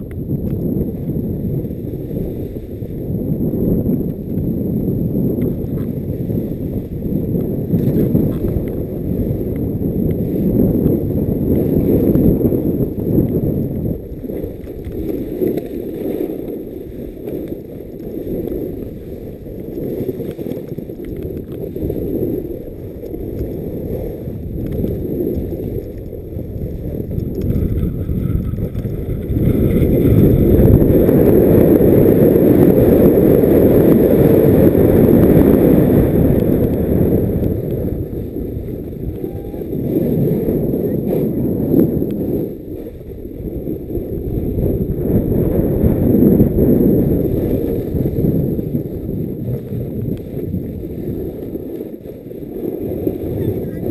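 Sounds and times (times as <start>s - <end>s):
snowboard sliding on snow: 0.0s - 53.9s
wind rushing over microphone: 0.0s - 53.9s.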